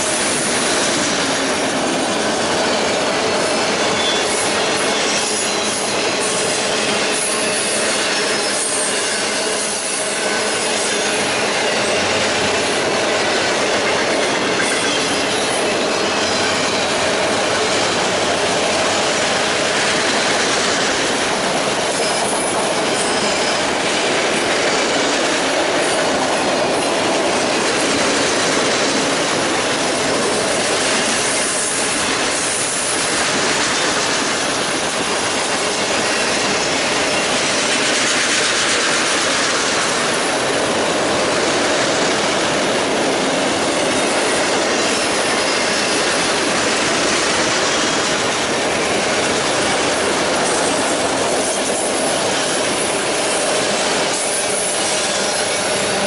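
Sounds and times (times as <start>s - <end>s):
freight train rolling past: 0.0s - 56.0s
wheel and rail noise: 0.0s - 56.0s.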